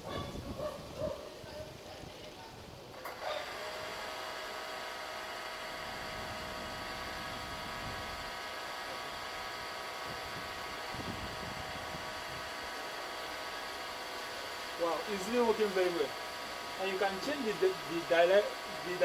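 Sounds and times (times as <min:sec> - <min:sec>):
small electric motor whirring: 0:01.7 - 0:19.0.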